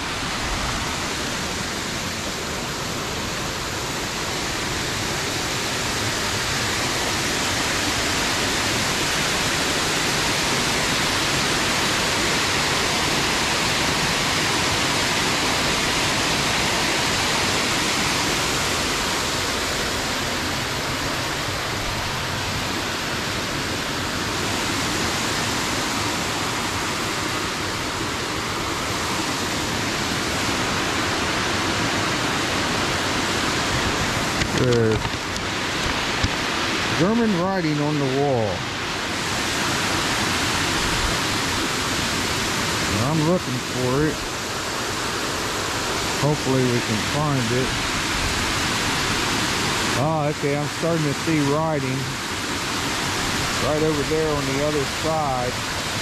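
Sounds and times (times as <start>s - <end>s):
water pouring over dam spillway: 0.0s - 56.0s.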